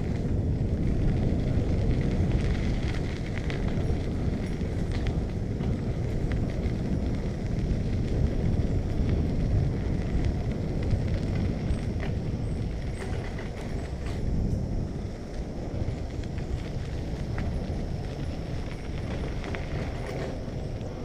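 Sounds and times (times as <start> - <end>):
bicycle rattling: 0.0 - 21.0
wind rushing over microphone: 0.0 - 21.0.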